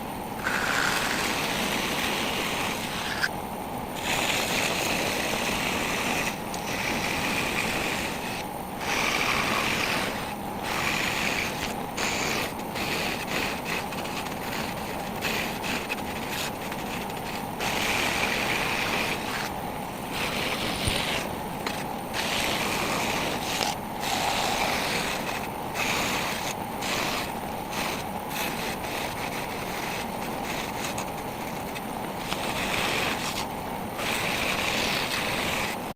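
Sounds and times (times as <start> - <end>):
wood being cut: 0.4 - 3.3, 4.0 - 35.9.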